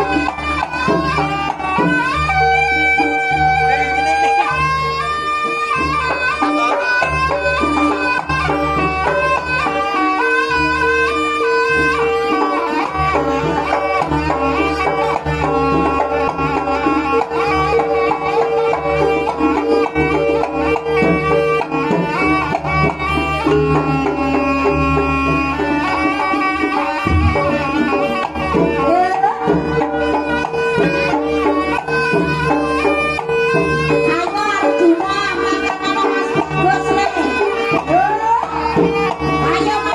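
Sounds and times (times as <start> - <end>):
hand drums playing: 0.0 - 39.9
reedy wind instrument melody: 0.0 - 39.9.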